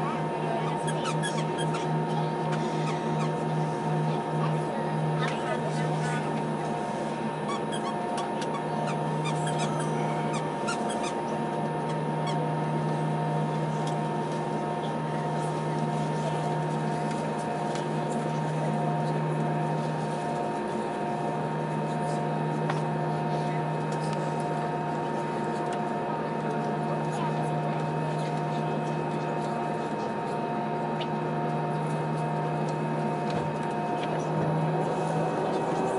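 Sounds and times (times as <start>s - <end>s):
jet cabin engine hum: 0.0s - 35.9s.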